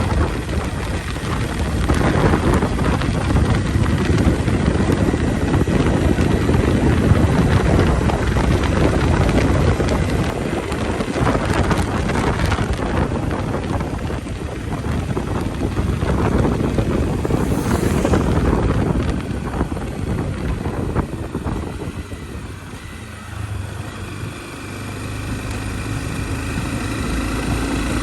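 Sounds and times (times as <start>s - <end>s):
motorcycle engine running: 0.0s - 28.0s
wind on microphone: 0.0s - 28.0s.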